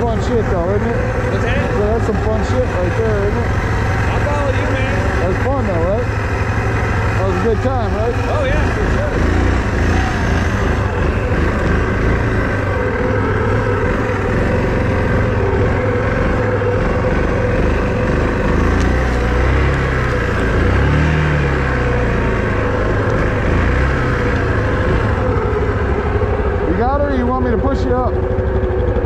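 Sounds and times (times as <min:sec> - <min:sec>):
small atv engine running: 0:00.0 - 0:29.0.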